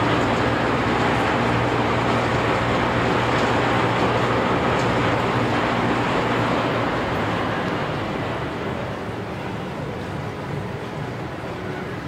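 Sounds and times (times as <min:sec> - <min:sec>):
boat engines rumbling: 0:00.0 - 0:12.0
rushing water noise: 0:00.0 - 0:12.0.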